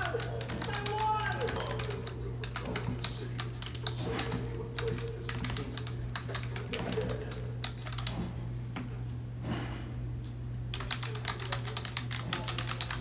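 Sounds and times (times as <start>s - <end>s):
computer keyboard typing: 0.0s - 8.2s, 10.7s - 13.0s
steady low hum: 0.0s - 13.0s.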